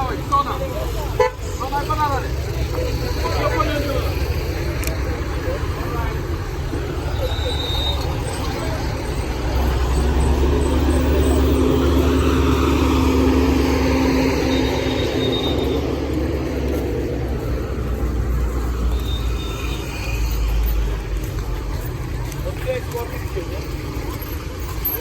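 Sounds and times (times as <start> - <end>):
road traffic: 0.0 - 25.0
vehicle engine rumbling: 0.0 - 25.0.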